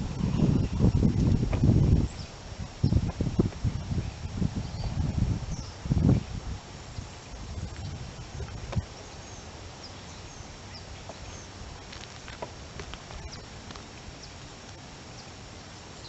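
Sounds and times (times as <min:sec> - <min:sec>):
outdoor hiss: 0:00.0 - 0:16.0
wind rumbling on microphone: 0:00.0 - 0:16.0.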